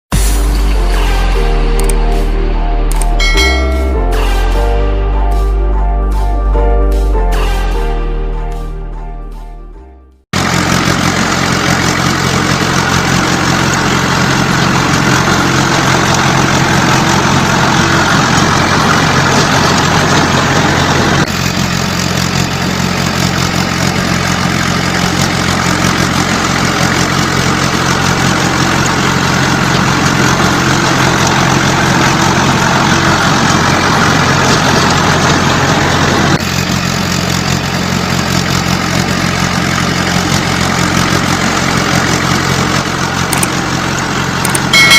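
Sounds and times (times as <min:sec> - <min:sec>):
heavy vehicle engine droning: 0:00.2 - 0:44.9.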